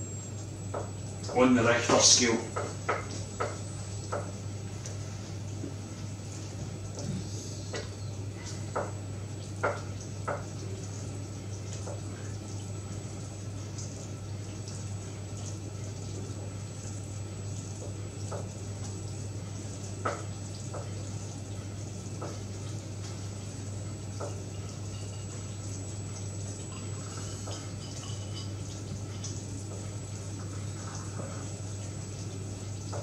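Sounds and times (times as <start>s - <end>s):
sugar mixture bubbling in a pot: 0.0s - 33.0s.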